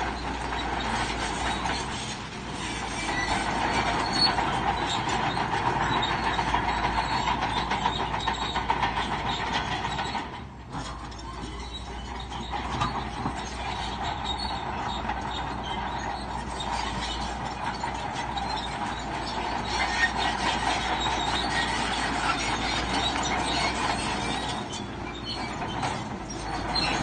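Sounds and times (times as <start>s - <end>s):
crawler tracks clanking and squealing: 0.0s - 27.0s
diesel engine running: 0.0s - 27.0s.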